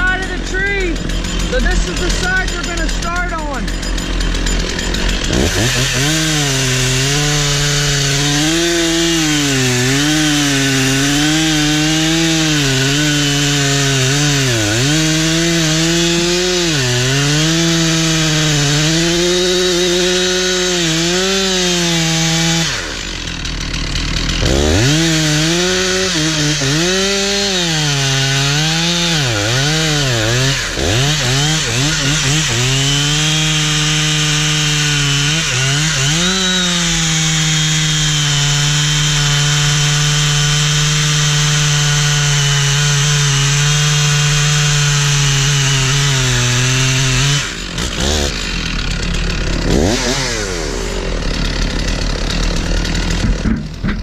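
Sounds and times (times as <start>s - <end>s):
chainsaw cutting a tree: 0.0s - 54.0s.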